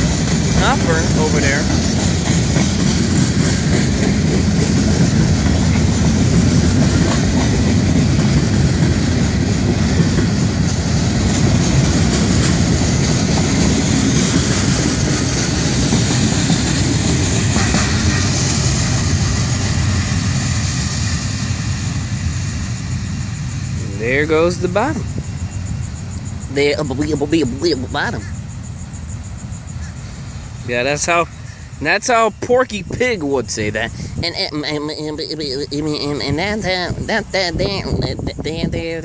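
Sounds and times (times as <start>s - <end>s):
freight train rolling on rails: 0.0s - 39.0s.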